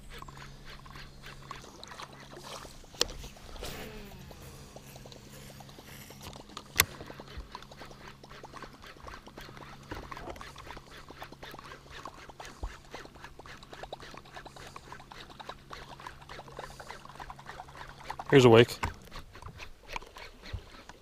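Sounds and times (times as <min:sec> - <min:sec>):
fishing reel ticking: 0:00.0 - 0:21.0
low steady hum: 0:00.0 - 0:21.0.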